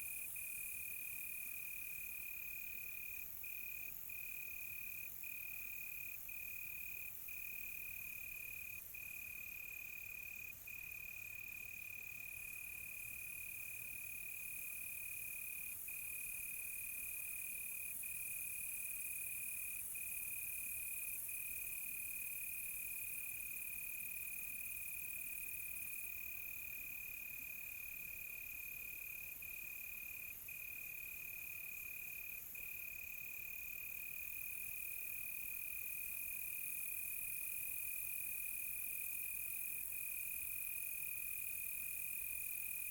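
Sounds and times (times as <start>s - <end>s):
faint insect hiss: 0.0s - 42.9s.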